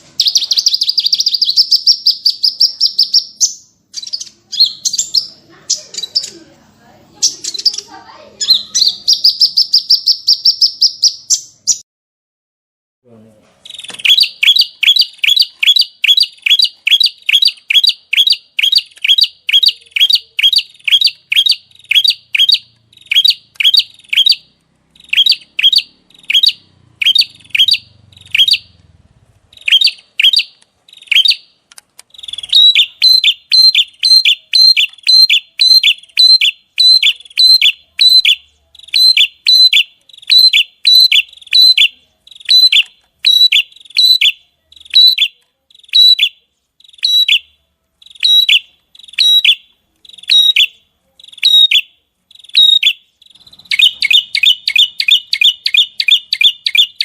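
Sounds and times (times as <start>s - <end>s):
songbird chirping rapidly: 0.0s - 11.8s, 13.6s - 57.0s.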